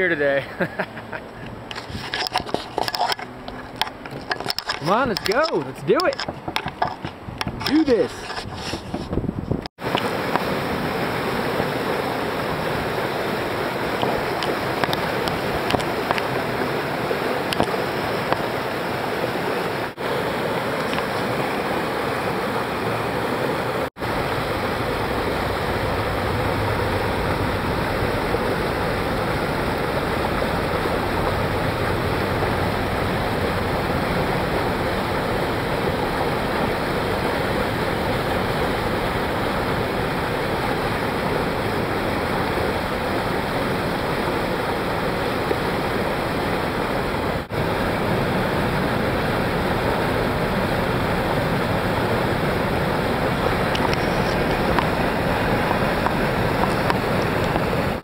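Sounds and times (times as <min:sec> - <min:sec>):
whitewater rushing: 0:09.8 - 0:58.0.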